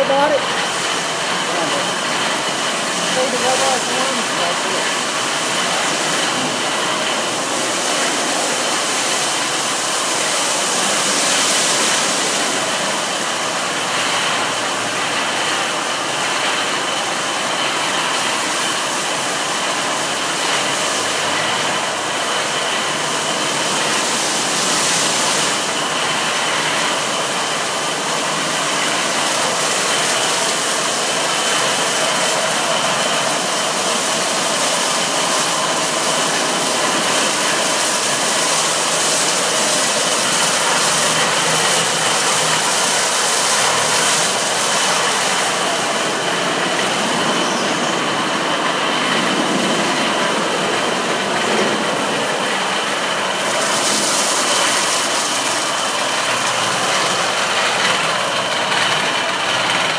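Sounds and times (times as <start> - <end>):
car wash water spray rushing: 0.0 - 59.9
spinning car wash brushes: 0.0 - 59.9.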